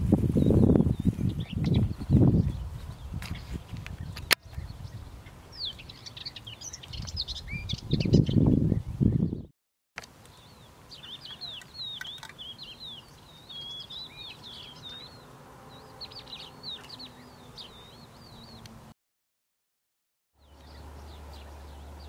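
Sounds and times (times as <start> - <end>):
faint outdoor background noise: 0.0 - 9.1, 10.0 - 19.0, 20.4 - 22.0
songbird singing: 0.1 - 18.9, 20.4 - 22.0.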